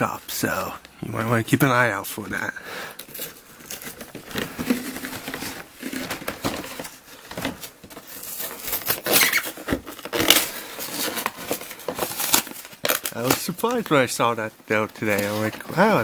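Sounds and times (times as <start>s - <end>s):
cardboard box rustling and crinkling: 3.1s - 16.0s.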